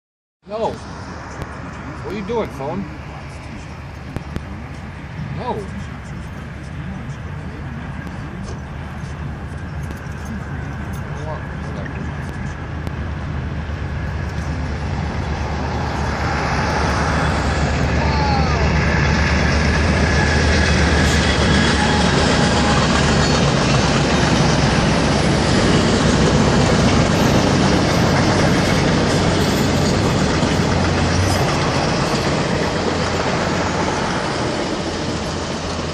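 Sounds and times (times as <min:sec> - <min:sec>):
train cars rumbling on rails: 0:00.5 - 0:35.9.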